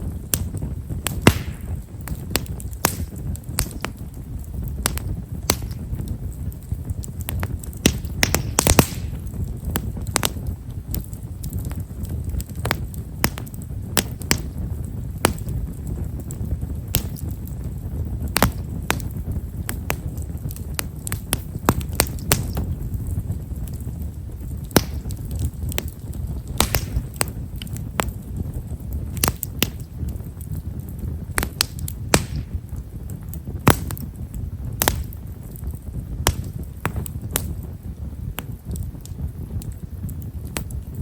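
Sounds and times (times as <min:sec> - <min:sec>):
fire crackling and popping: 0:00.0 - 0:41.0
fire rumbling: 0:00.0 - 0:41.0.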